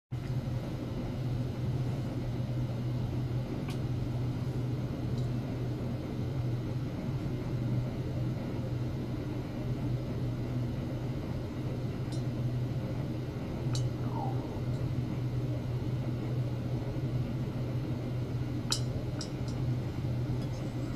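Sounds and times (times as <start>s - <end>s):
steady low hum: 0.2s - 20.9s.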